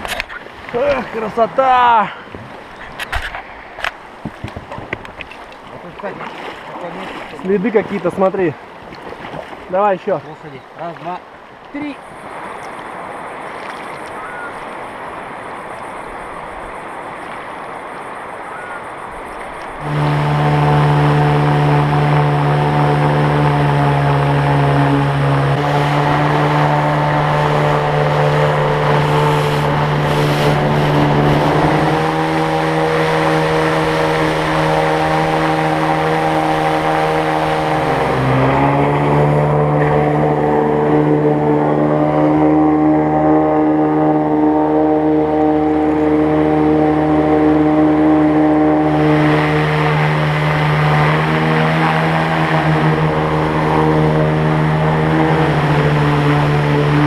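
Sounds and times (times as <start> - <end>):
outboard motor running hard: 0.0 - 11.2, 19.1 - 57.0
rushing river water: 0.0 - 57.0.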